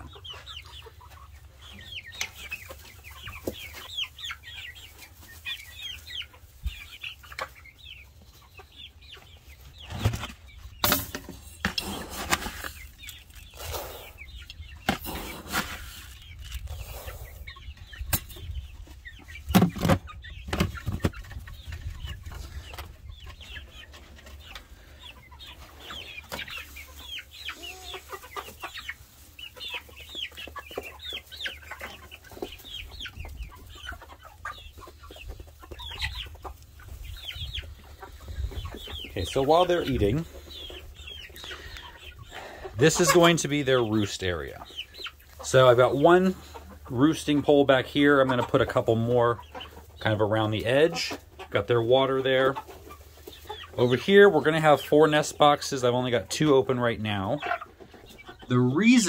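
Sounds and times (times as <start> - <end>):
chicks clucking and peeping: 0.0 - 59.0.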